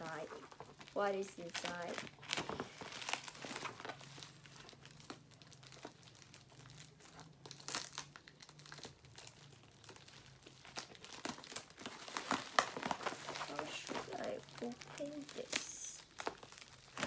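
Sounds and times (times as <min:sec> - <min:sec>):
parcel packaging crinkling: 0:00.0 - 0:17.0.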